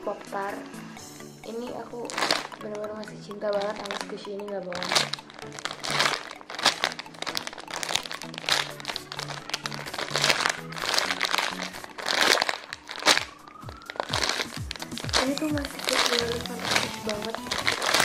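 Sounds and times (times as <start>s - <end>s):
background music: 0.0s - 18.0s
plastic bag crinkling: 1.5s - 18.0s.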